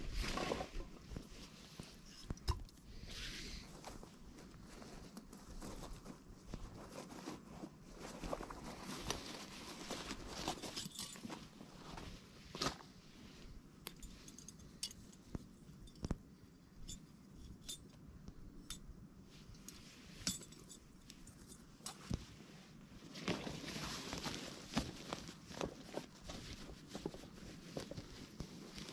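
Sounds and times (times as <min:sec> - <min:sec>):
rustling: 0:00.0 - 0:16.2, 0:19.2 - 0:28.9.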